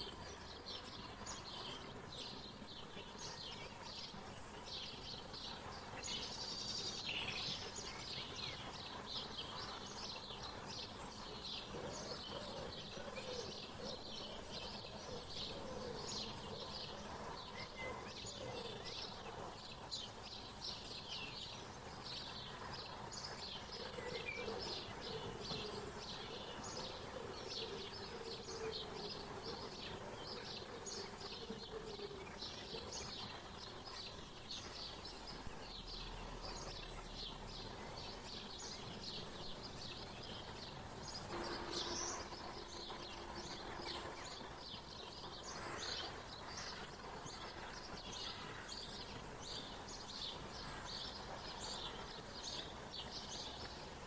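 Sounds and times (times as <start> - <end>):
songbirds chirping: 0.0 - 54.0
steady outdoor hiss: 0.0 - 54.0.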